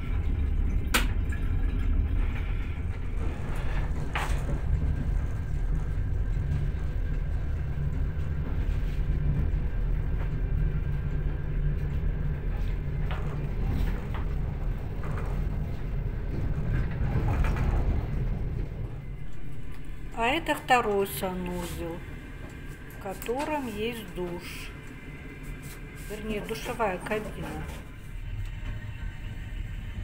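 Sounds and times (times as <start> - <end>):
train carriage rumbling on rails: 0.0 - 30.0.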